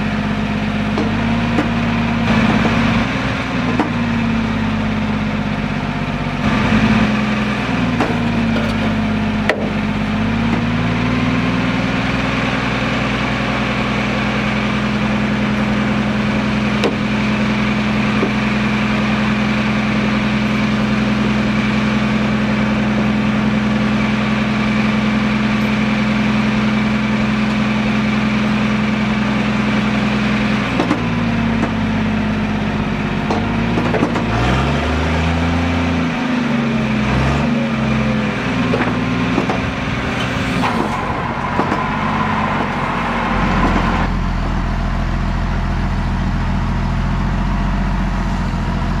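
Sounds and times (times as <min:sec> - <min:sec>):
engine running: 0:00.0 - 0:49.0.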